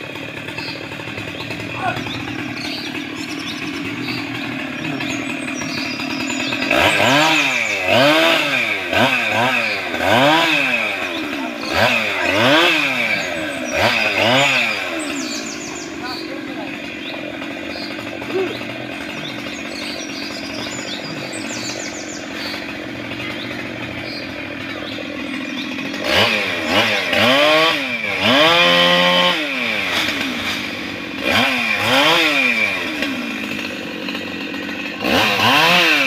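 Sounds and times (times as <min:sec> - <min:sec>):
chainsaw idling and revving: 0:00.0 - 0:36.0.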